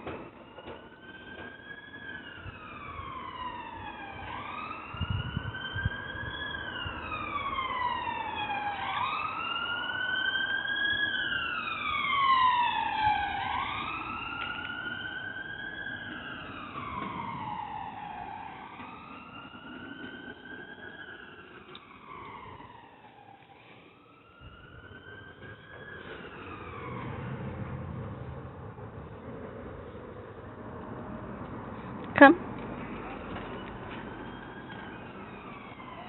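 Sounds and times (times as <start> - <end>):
emergency vehicle siren wailing: 0.0 - 36.0.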